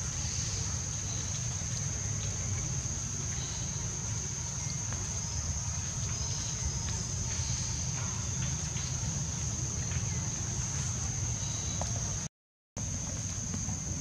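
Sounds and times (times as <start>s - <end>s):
high-pitched insect drone: 0.0s - 12.1s.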